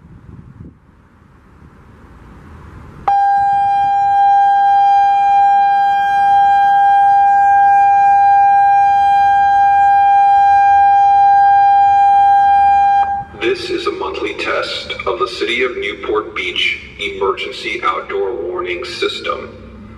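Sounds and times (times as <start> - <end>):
faint wind noise: 0.0 - 19.9
steady warning tone: 3.0 - 19.9.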